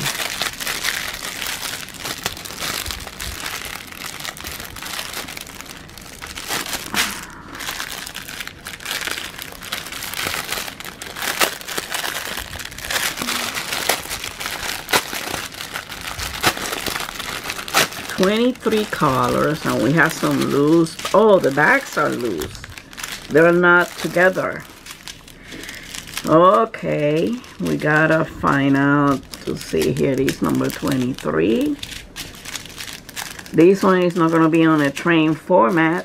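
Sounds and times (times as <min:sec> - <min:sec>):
plastic bags crinkling: 0:00.0 - 0:36.0.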